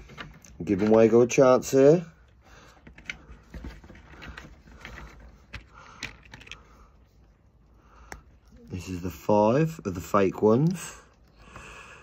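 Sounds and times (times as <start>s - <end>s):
rustling of electrical cable: 0.0s - 11.7s.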